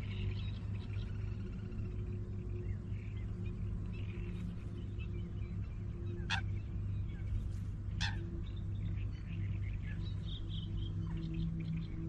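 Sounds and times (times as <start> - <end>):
sharp bird calls: 0.0 - 12.0
small birds chirping and singing: 0.0 - 12.0
steady low hum: 0.0 - 12.0.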